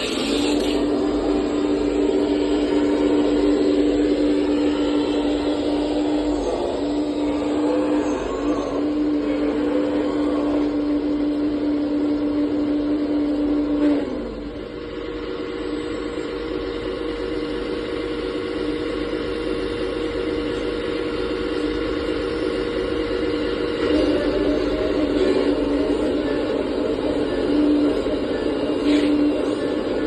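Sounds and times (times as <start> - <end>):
hydraulic pump whine: 0.0 - 30.0.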